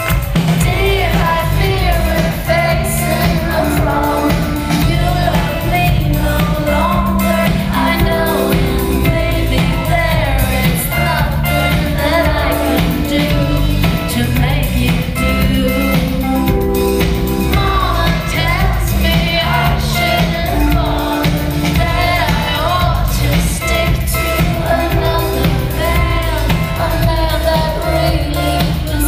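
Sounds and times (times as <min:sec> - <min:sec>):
live pop band playing: 0:00.0 - 0:29.0
woman singing: 0:00.0 - 0:29.0.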